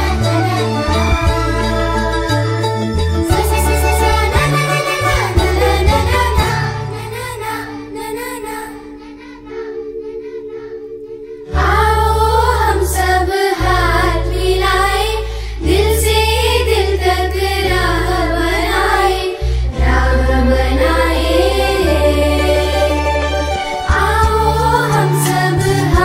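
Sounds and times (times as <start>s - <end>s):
instrumental accompaniment with bass: 0.0s - 8.0s, 11.5s - 26.0s
girls singing together: 3.3s - 26.0s.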